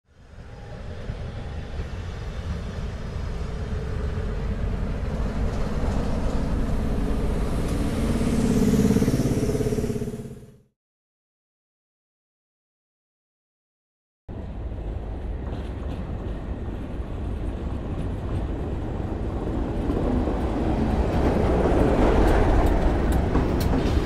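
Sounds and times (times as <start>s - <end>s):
diesel locomotive engines running: 0.1s - 10.6s, 14.3s - 24.0s.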